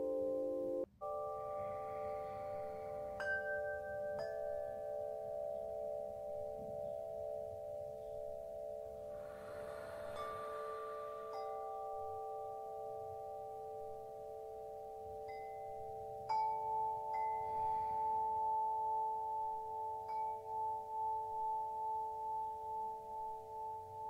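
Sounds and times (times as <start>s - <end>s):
ringing bell tones: 0.0s - 24.0s.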